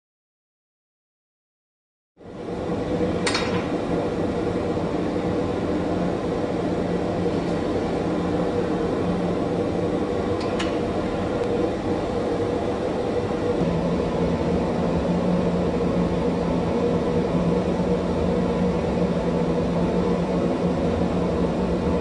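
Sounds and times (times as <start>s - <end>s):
furnace roaring and humming: 2.2s - 22.0s.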